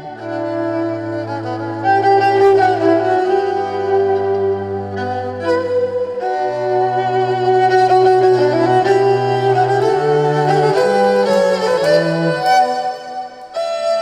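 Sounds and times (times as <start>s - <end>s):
violin playing sustained notes: 0.0s - 14.0s.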